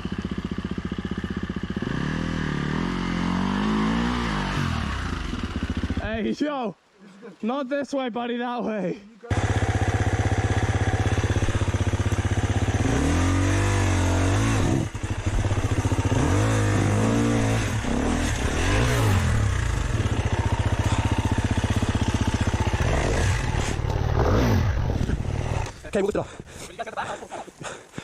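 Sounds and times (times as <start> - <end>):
dirt bike engine revving: 0.0 - 6.2, 9.3 - 25.9.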